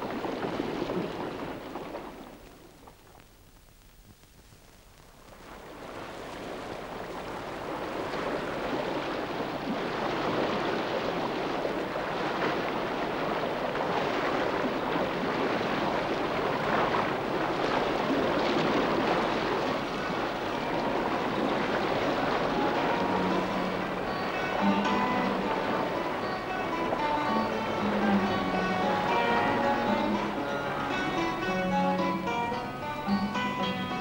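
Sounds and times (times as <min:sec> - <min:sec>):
waves breaking: 0:00.0 - 0:03.2, 0:05.2 - 0:34.0
wind: 0:00.0 - 0:34.0.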